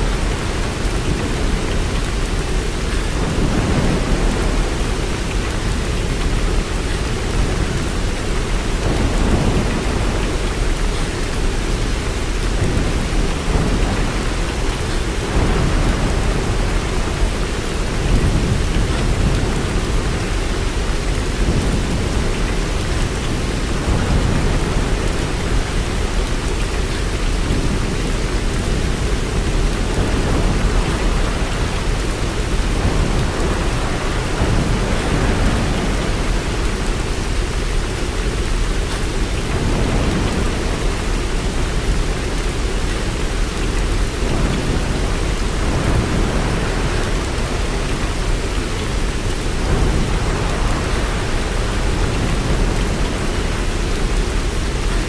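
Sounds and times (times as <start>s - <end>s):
low thunder rumbling: 0.0s - 55.0s
steady rain falling: 0.0s - 55.0s.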